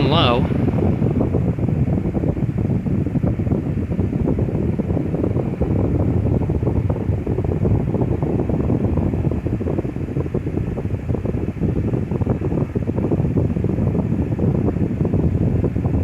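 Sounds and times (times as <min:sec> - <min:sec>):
fan wind noise on microphone: 0:00.0 - 0:16.0.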